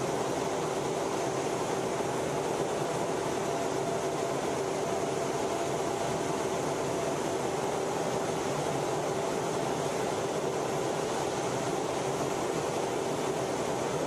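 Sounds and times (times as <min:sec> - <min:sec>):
jet engine and airflow noise: 0:00.0 - 0:14.0.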